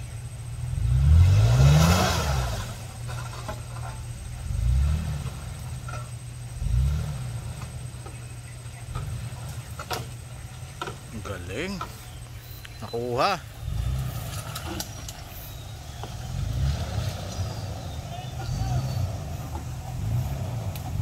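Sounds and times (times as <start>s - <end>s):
engine revving under load: 0.0s - 21.0s.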